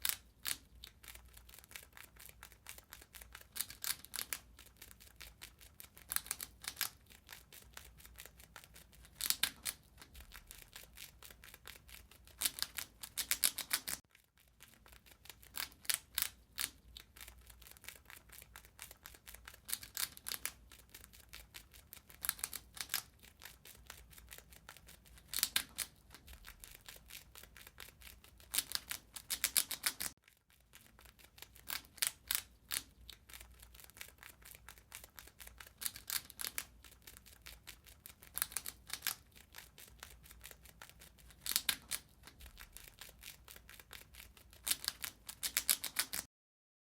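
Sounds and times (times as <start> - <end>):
rat gnawing and chewing: 0.0 - 46.3.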